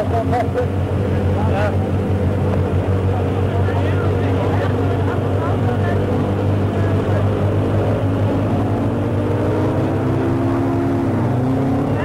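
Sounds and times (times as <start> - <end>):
car engine revving: 0.0 - 12.0
low hum: 0.0 - 12.0.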